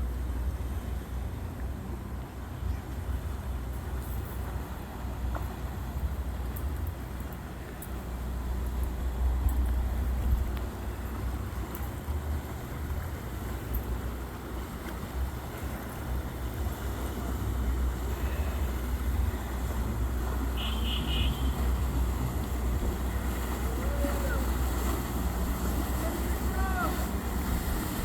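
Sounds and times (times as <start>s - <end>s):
motorboat engines rumbling: 0.0s - 28.0s.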